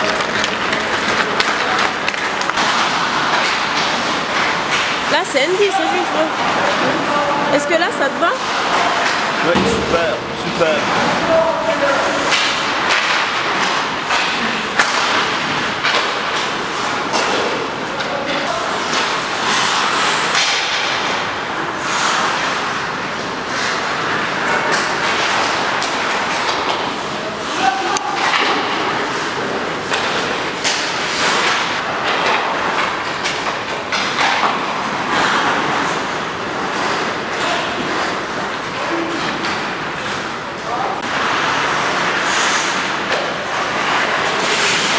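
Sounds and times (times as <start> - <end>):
hockey sticks hitting pucks: 0.0 - 44.9
pucks striking boards and pads: 0.0 - 44.9
skates scraping ice: 0.0 - 44.9.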